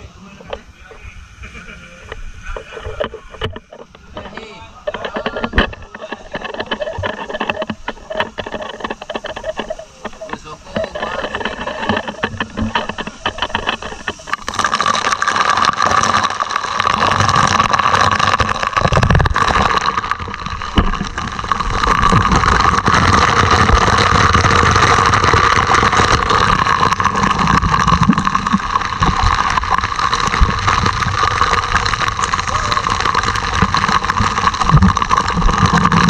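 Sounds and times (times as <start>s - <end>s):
water spraying onto steel deck: 0.0s - 36.0s.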